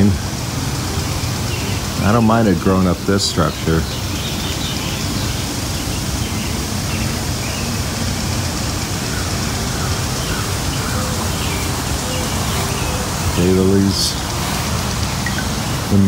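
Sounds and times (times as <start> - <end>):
sprinklers spraying water: 0.0 - 16.0.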